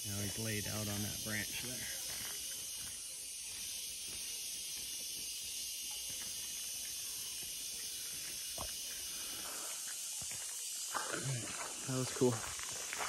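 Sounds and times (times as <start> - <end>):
forest insects hissing: 0.0 - 13.0.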